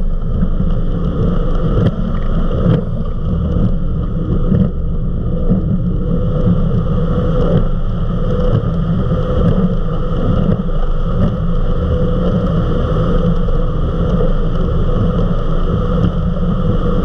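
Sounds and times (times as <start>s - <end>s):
powerboat engine drone: 0.0s - 17.0s.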